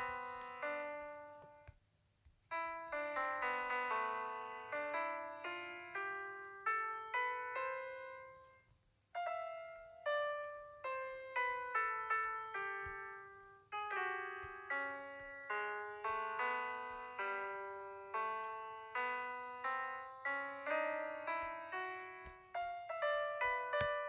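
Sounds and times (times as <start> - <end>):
gentle piano melody: 0.0 - 1.8, 2.5 - 24.0.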